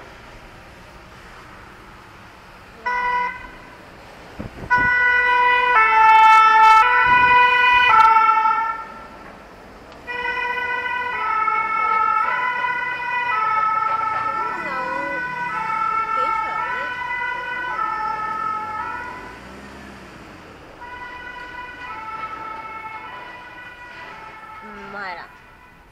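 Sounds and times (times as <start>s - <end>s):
low road noise: 0.0s - 25.9s
two-tone emergency siren: 2.8s - 3.8s, 4.4s - 9.2s, 10.0s - 25.9s.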